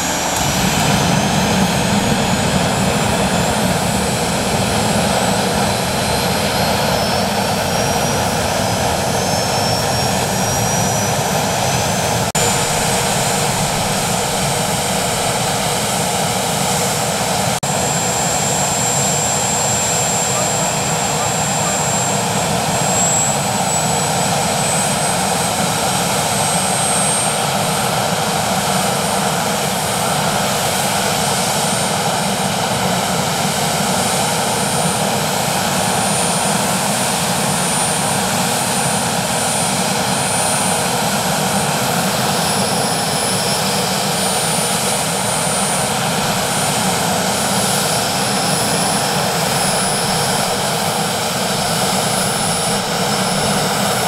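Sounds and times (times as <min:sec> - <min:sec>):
helicopter turbine engines running: 0:00.0 - 0:54.0
high turbine whine: 0:00.0 - 0:54.0.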